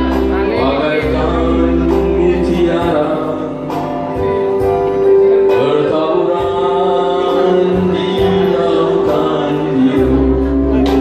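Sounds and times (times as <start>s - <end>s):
live band playing: 0.0s - 11.0s
man singing into a microphone: 0.0s - 11.0s.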